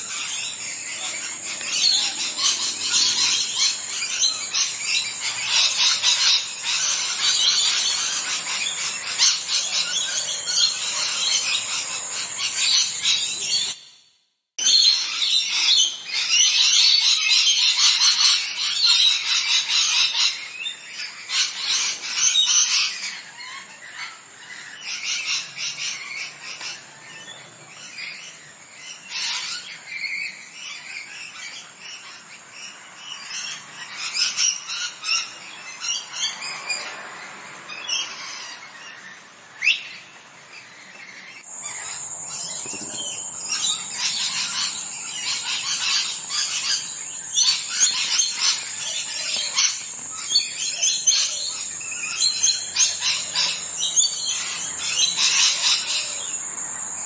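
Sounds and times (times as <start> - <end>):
birds chirping: 0.0 - 14.0, 14.6 - 57.0.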